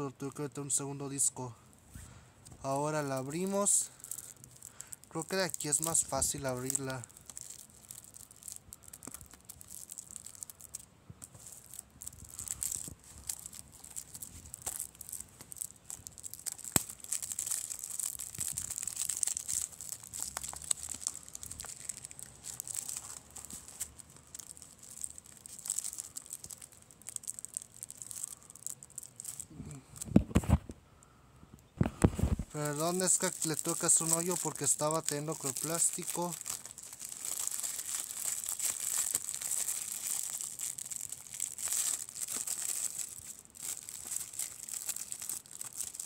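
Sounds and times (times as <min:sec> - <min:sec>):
plastic shrink wrap crinkling: 0:02.4 - 0:30.7, 0:31.8 - 0:46.0.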